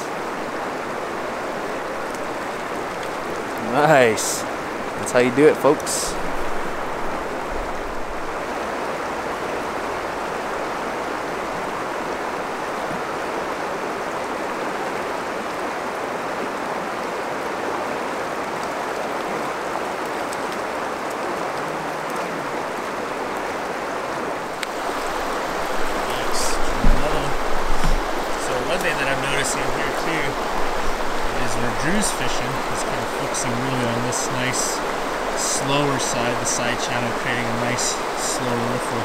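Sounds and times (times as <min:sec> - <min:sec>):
river rushing over riffles: 0:00.0 - 0:39.0.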